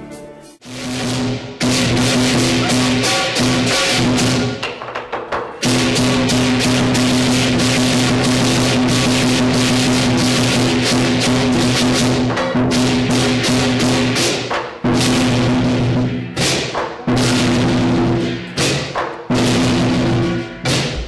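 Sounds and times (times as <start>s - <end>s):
clashing cymbals: 0.6s - 4.6s, 5.6s - 21.0s
large drum beaten fast: 0.7s - 21.0s.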